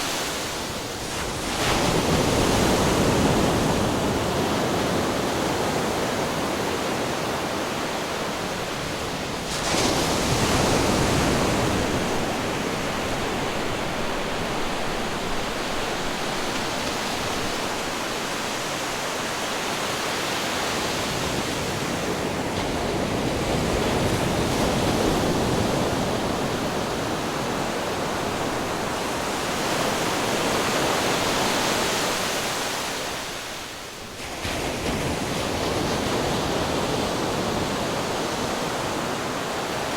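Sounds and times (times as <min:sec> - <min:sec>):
ocean waves breaking on rocks: 0:00.0 - 0:39.9.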